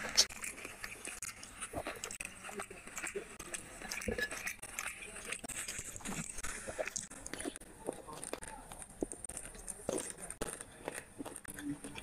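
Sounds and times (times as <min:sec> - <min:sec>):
fingers squelching through food: 0:00.0 - 0:12.0
mouth chewing and smacking: 0:00.0 - 0:12.0.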